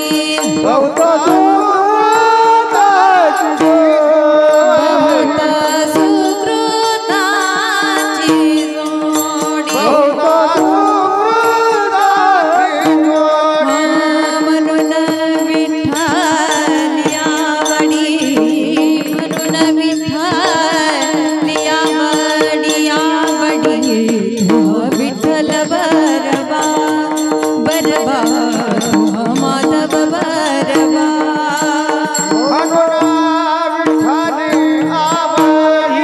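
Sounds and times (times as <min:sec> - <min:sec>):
drum accompaniment: 0:00.0 - 0:36.0
person singing ornamented melody: 0:00.0 - 0:36.0.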